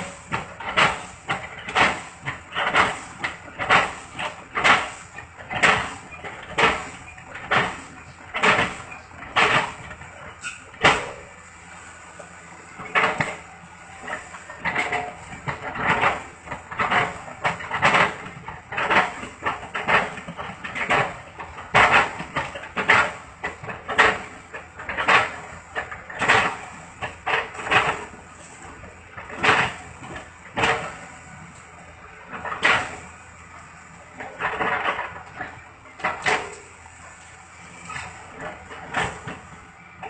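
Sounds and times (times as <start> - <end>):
excavator running: 0.0 - 40.0.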